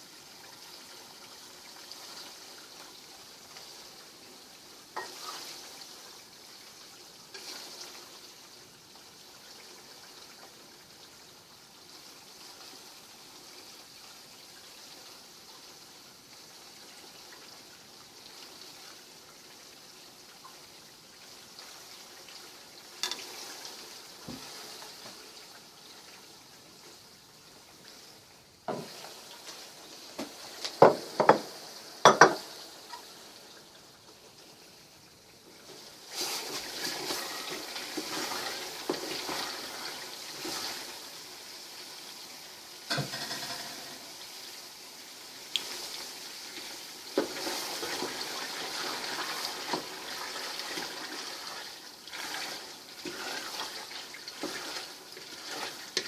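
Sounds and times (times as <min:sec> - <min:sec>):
fat sizzling and bubbling in pot: 0:00.0 - 0:56.0.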